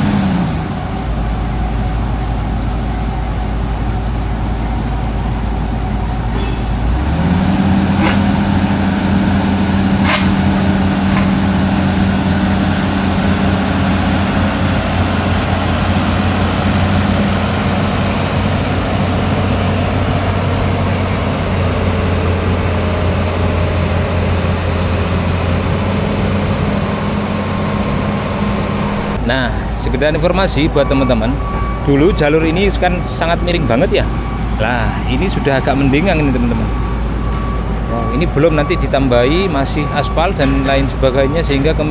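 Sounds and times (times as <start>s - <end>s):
engine hum: 0.0s - 41.9s.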